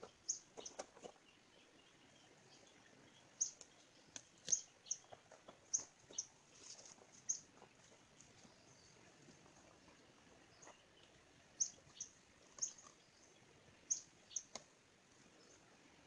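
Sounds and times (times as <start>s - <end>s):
small bird chirping: 0.0s - 14.6s.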